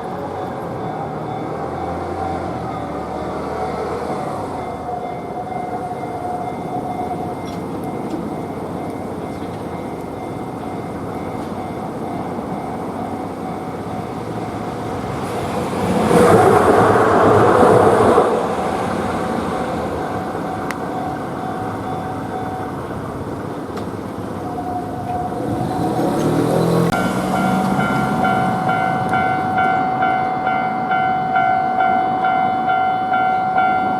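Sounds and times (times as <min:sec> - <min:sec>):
tram wheels rumbling on rails: 0:00.0 - 0:33.9.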